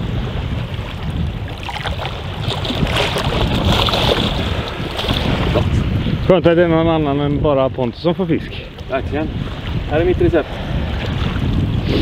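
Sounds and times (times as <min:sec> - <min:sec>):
sea water lapping and splashing: 0:00.0 - 0:12.0
wind buffeting microphone: 0:00.0 - 0:12.0.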